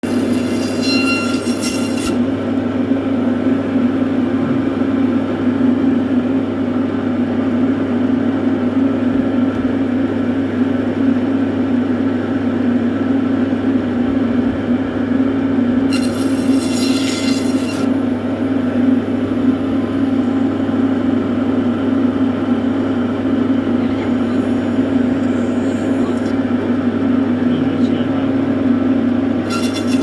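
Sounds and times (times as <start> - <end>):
constant low hum: 1.3 - 30.0
steady mechanical drone: 2.0 - 30.0.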